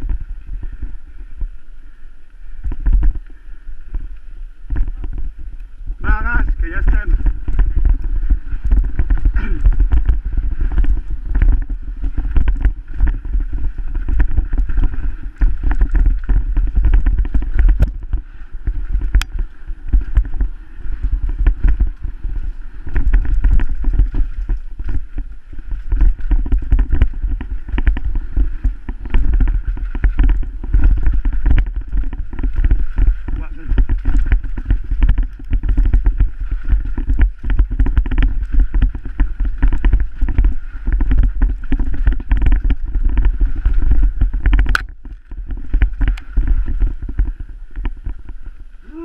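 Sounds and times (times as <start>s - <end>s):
mountain bike rattling: 0.0s - 48.7s
wind buffeting microphone: 0.0s - 49.0s.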